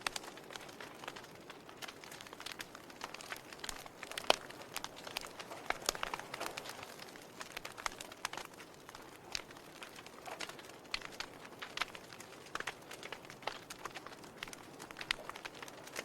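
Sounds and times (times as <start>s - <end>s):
burning wood popping: 0.0s - 16.0s
log fire crackling: 0.0s - 16.0s.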